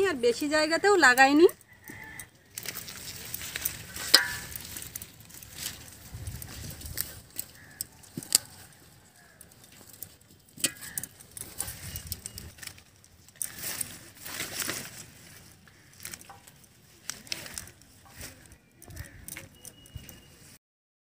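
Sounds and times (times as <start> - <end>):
rustling of dry roots and leaves: 0.0 - 20.6.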